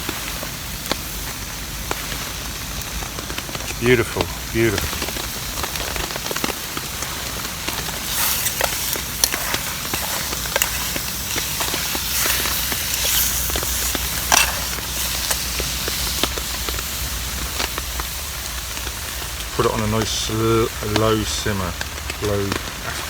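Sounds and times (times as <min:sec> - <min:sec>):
heavy rain on a tarp: 0:00.0 - 0:23.0
sharp pops and crackles: 0:00.0 - 0:23.0
steak sizzling in a pan: 0:00.0 - 0:23.0.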